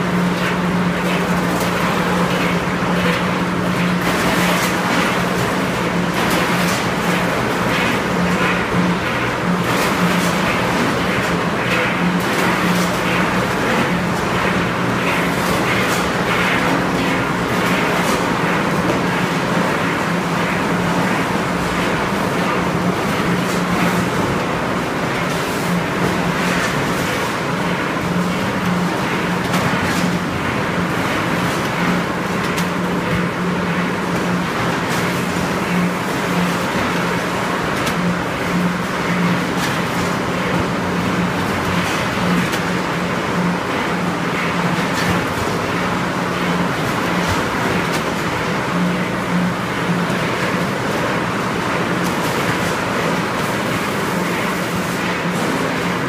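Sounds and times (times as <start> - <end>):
packaging machine hum: 0.0 - 56.0.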